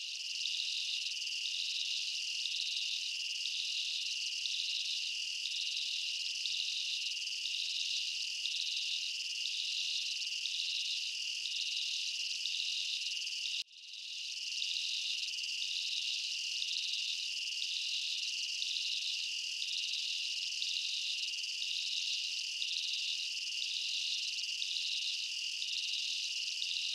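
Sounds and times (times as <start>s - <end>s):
crickets chirping: 0.0s - 26.9s.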